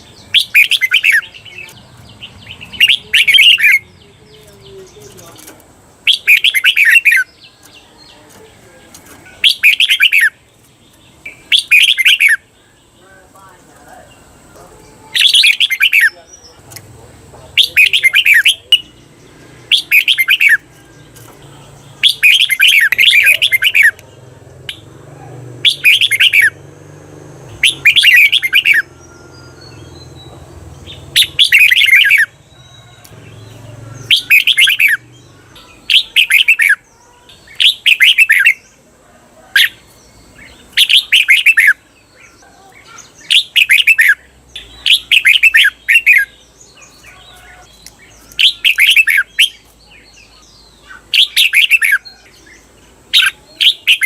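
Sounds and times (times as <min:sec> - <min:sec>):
bird singing chirpy phrases: 0:00.0 - 0:54.0.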